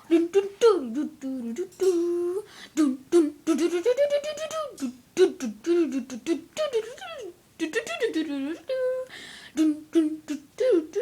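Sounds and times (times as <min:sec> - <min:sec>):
person humming a bouncy tune: 0:00.0 - 0:11.0.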